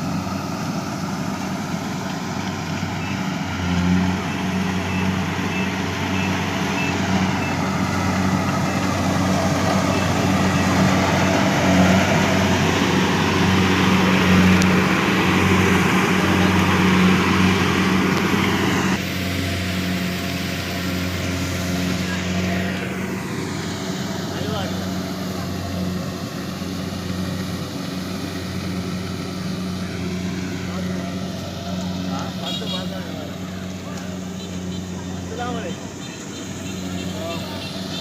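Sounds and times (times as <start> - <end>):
heavy machinery engine humming: 0.0 - 38.0.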